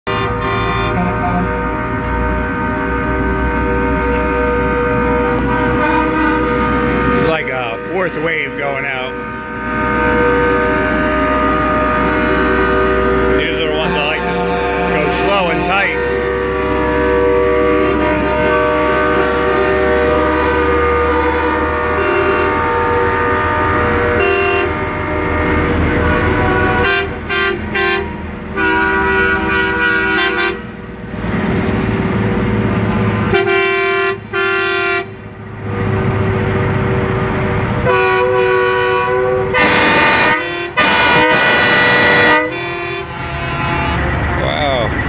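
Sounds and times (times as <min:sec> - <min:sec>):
truck air horns blasting: 0:00.0 - 0:31.0, 0:31.7 - 0:45.0
diesel engines rumbling: 0:00.0 - 0:45.0.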